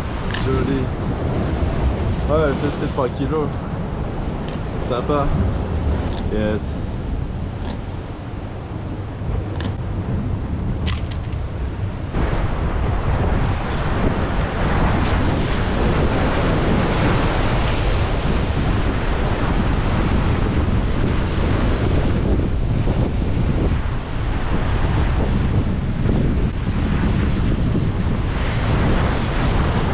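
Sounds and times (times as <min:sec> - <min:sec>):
sea waves breaking over rocks: 0:00.0 - 0:29.9
wind buffeting microphone: 0:00.0 - 0:29.9.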